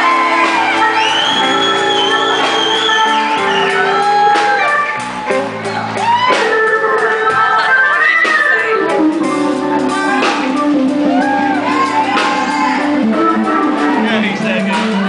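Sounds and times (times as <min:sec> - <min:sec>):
electric guitar lead bending notes: 0:00.0 - 0:15.0
live blues band playing: 0:00.0 - 0:15.0.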